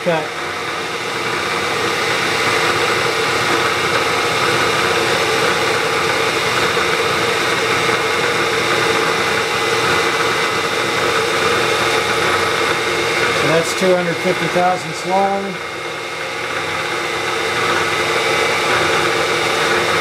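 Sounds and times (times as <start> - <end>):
milling machine running: 0.0 - 20.0.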